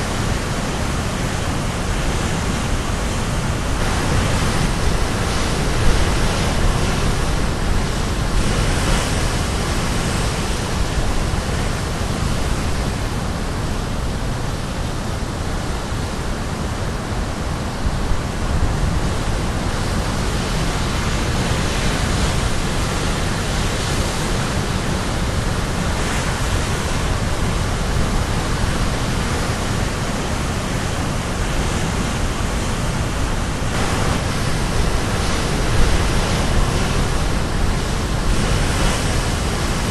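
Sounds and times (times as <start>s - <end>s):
surf breaking on shore: 0.0s - 13.3s, 17.6s - 39.9s
wind rumble on microphone: 0.0s - 39.9s.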